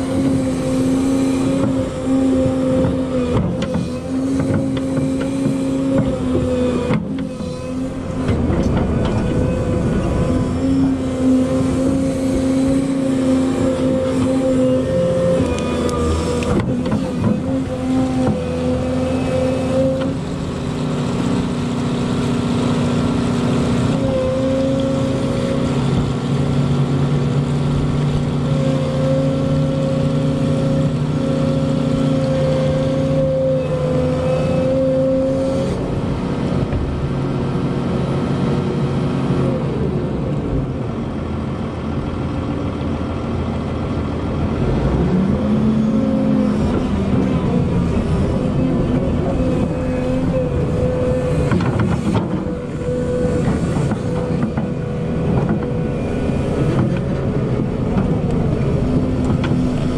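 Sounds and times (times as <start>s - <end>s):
excavator diesel engine running: 0.0s - 59.9s
hydraulic whine: 0.0s - 59.9s.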